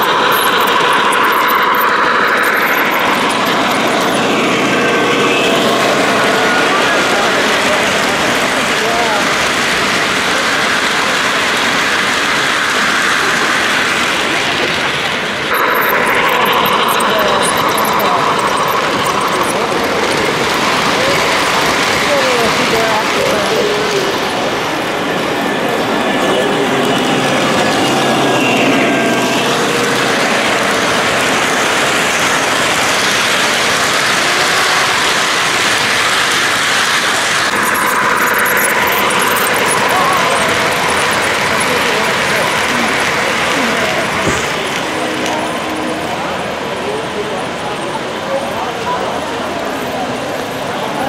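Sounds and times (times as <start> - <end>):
model trains whirring and rumbling: 0.0 - 51.0.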